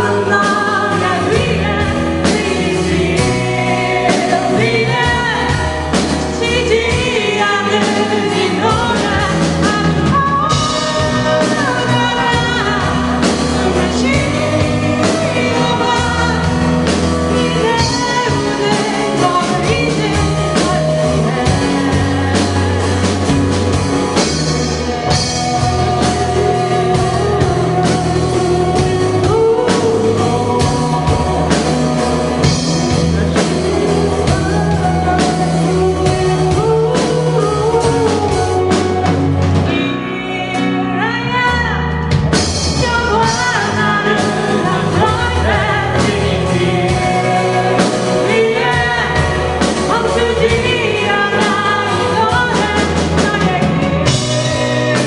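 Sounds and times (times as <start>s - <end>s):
band playing a song: 0.0s - 55.0s
lead singer singing: 0.0s - 55.0s.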